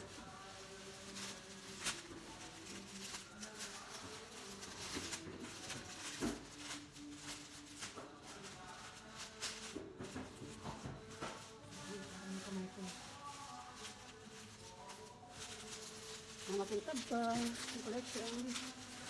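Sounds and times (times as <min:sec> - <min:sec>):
plastic packaging rustling: 0:00.0 - 0:19.0.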